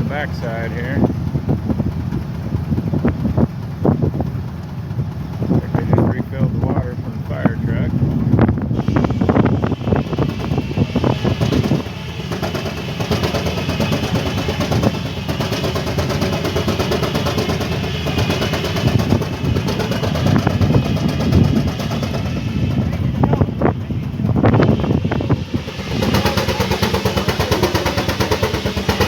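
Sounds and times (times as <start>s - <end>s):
engine running with even beat: 0.0s - 29.0s.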